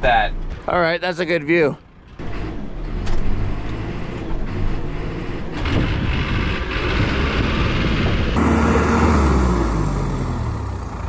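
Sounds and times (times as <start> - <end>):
diesel engine drone: 0.0 - 11.0.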